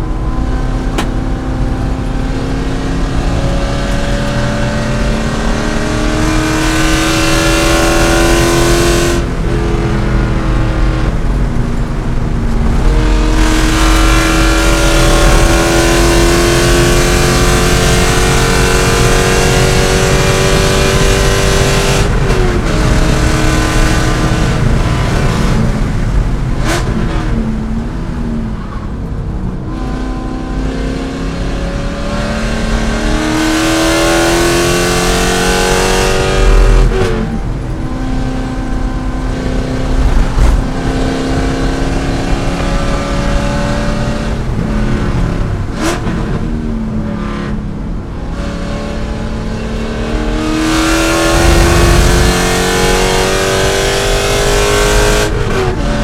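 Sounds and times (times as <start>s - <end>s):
racing car engine accelerating: 0.0s - 56.0s.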